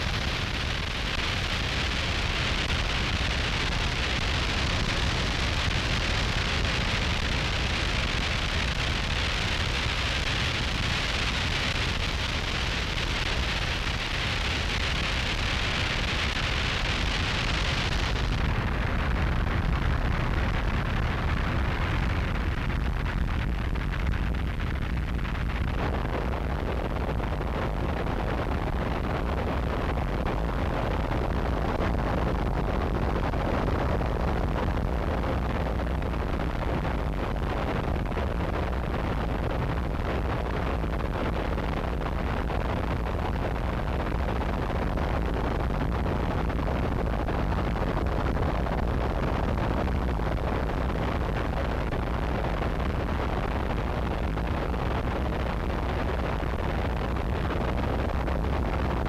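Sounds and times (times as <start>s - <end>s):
dense static noise wall: 0.0s - 59.0s.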